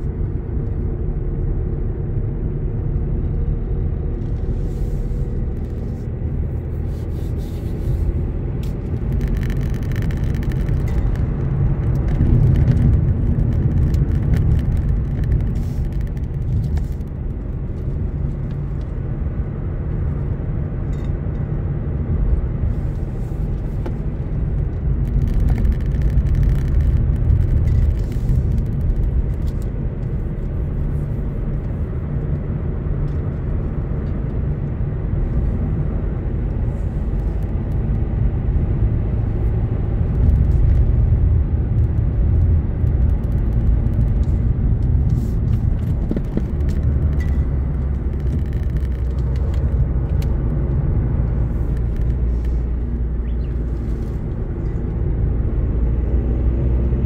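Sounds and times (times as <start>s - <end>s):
car interior road rumble: 0.0s - 57.0s.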